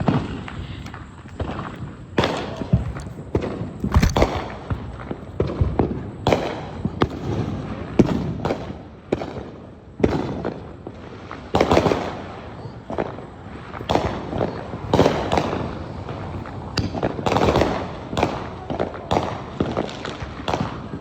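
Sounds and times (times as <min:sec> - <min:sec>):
fireworks bangs and pops: 0:00.0 - 0:21.0
fireworks crackle: 0:00.0 - 0:21.0.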